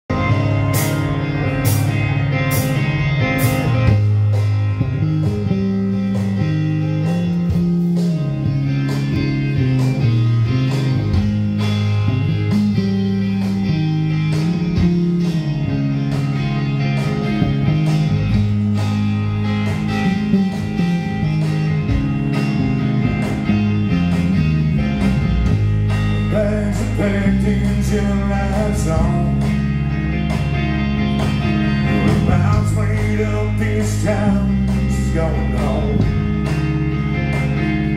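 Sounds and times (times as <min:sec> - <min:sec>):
bass line: 0:00.0 - 0:37.9
drums: 0:00.0 - 0:37.9
electric guitars: 0:00.0 - 0:37.9.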